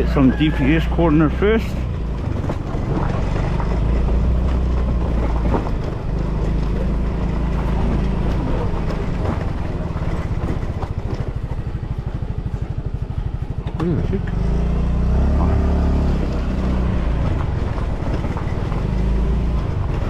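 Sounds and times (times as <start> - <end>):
motor scooter engine running: 0.0 - 20.0
road noise: 0.0 - 20.0
wind: 0.0 - 20.0.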